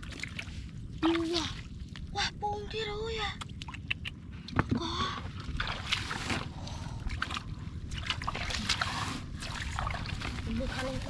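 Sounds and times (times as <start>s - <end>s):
muddy water sloshing: 0.0s - 11.0s.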